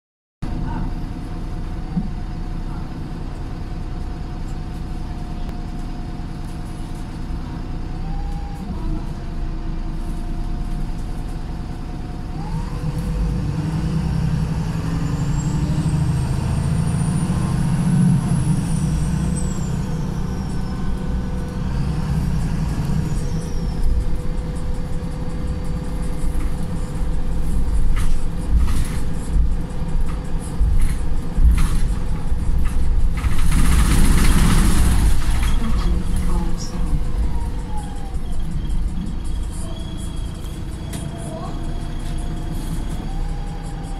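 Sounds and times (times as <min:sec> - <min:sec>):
bus engine pulling: 0:00.4 - 0:43.9.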